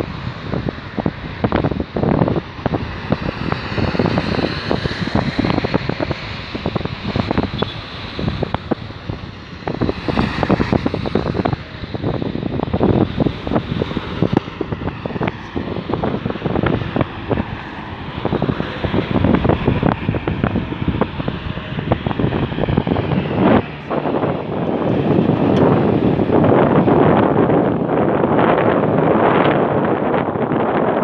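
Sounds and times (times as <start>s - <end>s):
moving car running noise: 0.0s - 31.0s
wind buffeting microphone: 0.0s - 31.0s.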